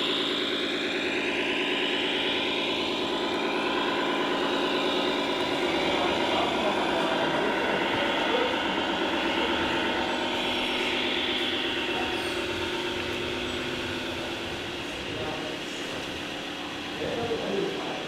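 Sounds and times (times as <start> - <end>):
model truck motors whining: 0.0 - 18.0.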